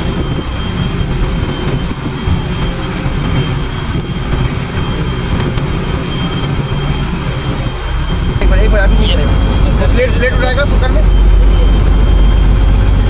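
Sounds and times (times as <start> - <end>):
low engine rumble: 0.0 - 13.0
thin high-pitched whine: 0.0 - 13.0.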